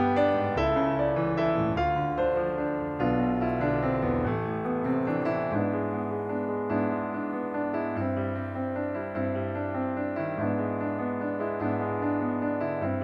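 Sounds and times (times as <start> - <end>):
piano instrumental music: 0.0 - 13.0.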